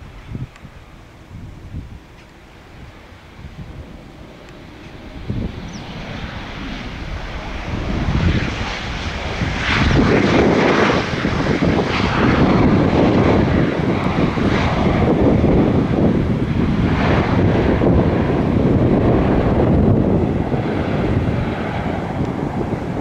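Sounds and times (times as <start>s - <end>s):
jet engines of landing plane: 0.0s - 23.0s.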